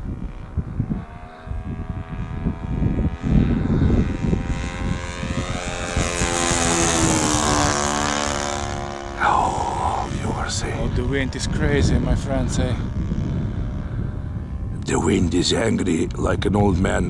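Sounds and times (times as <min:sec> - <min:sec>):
model airplane engine passing overhead: 0:00.0 - 0:17.0
wind rumbling on microphone: 0:00.0 - 0:17.0.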